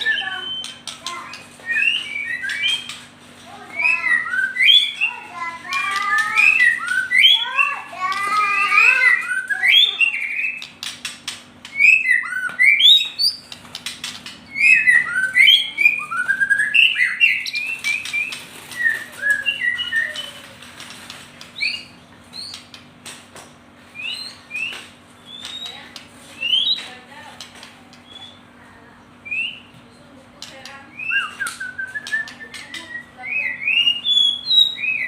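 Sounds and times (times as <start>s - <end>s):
songbird chirping and whistling: 0.0s - 10.9s, 11.6s - 22.8s, 23.8s - 27.1s, 27.9s - 28.6s, 29.2s - 35.0s.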